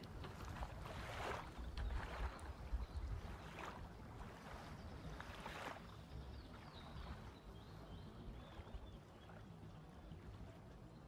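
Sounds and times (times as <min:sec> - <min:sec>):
water lapping at shore: 0:00.0 - 0:11.0
wind rumble on microphone: 0:00.0 - 0:11.0.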